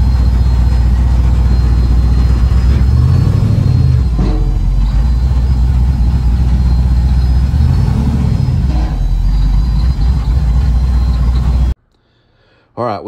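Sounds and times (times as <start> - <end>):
truck engine rumbling: 0.0 - 11.8.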